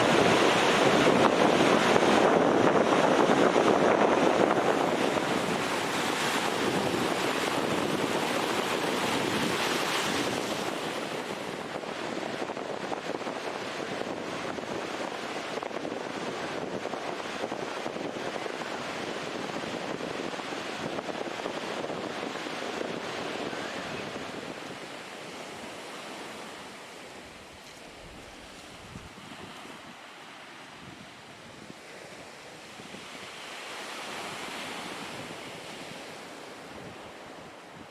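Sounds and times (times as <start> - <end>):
ocean surf washing: 0.0 - 37.9.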